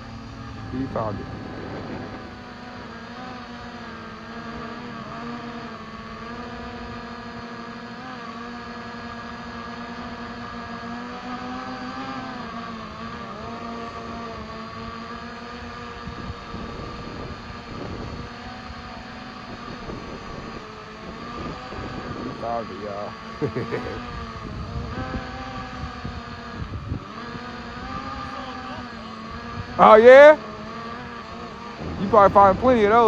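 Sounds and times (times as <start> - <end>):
drone propellers buzzing: 0.0 - 33.0.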